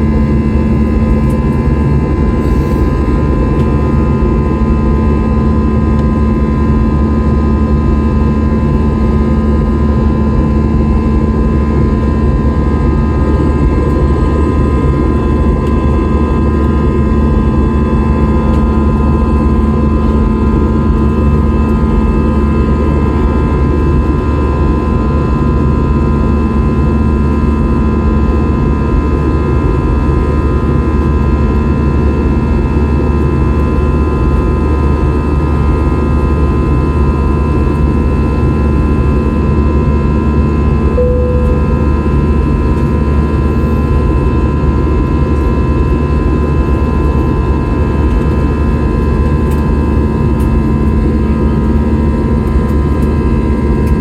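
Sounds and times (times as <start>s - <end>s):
jet engines droning: 0.0s - 27.6s, 34.5s - 54.0s.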